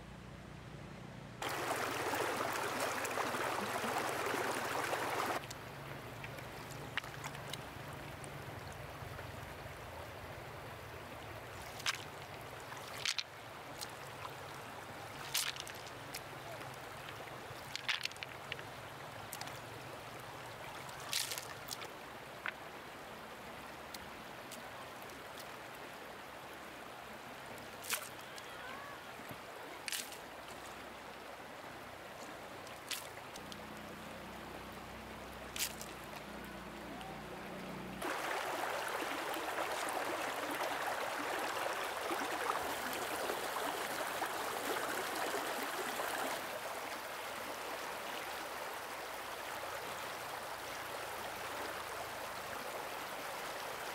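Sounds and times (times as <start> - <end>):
stream water trickling: 1.4 - 53.9.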